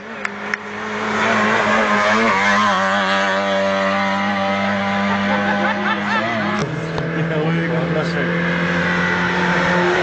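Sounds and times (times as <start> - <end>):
race car passing at full throttle: 0.0 - 10.0.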